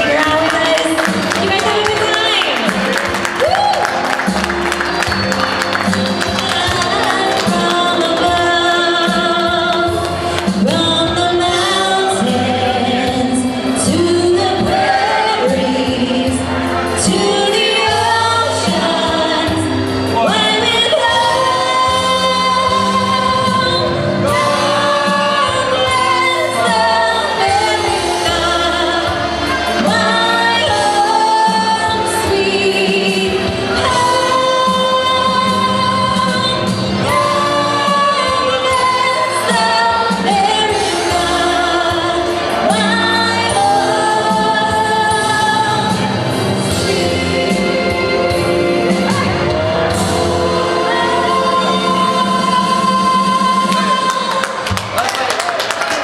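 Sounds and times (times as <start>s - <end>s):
instrumental backing: 0.0s - 54.0s
person singing: 0.0s - 54.6s.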